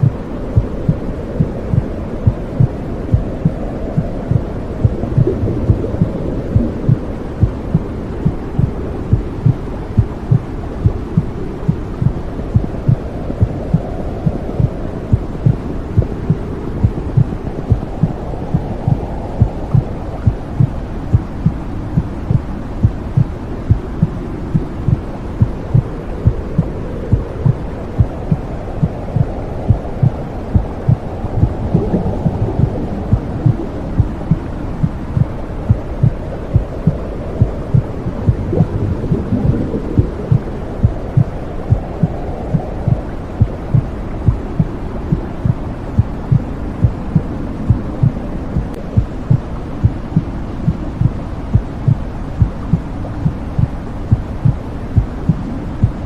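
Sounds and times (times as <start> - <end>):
heartbeat thumping: 0.0 - 56.0
low whooshing rumble: 0.0 - 56.0.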